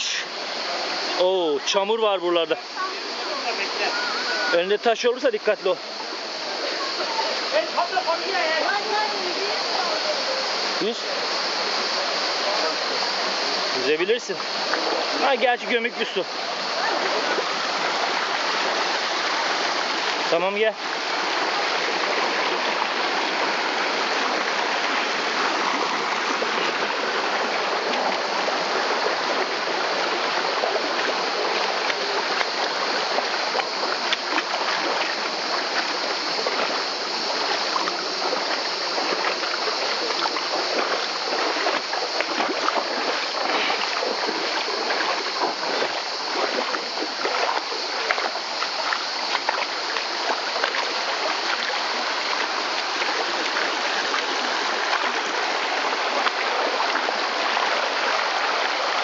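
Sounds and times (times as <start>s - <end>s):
small water splashes: 0.0s - 59.0s
stream rushing over rocks: 0.0s - 59.0s.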